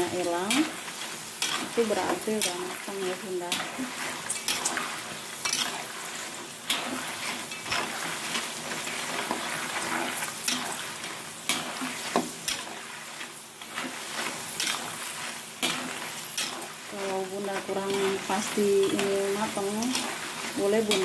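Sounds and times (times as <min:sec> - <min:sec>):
crackers sizzling in oil: 0:00.0 - 0:21.0.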